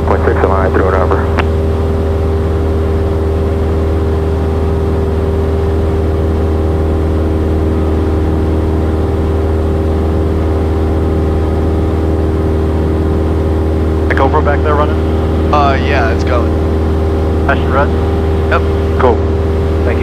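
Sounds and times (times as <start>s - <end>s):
light aircraft engine drone: 0.0s - 20.0s.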